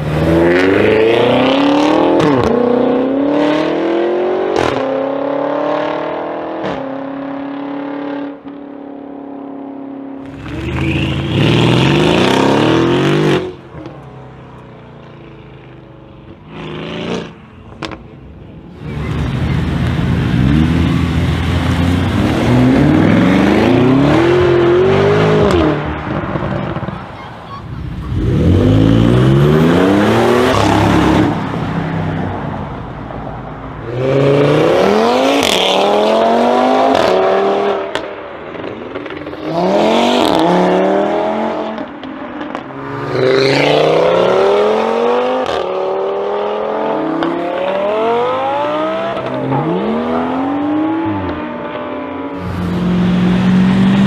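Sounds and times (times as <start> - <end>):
car engines accelerating hard: 0.0 - 8.5, 10.2 - 14.0, 18.7 - 27.2, 27.8 - 54.0.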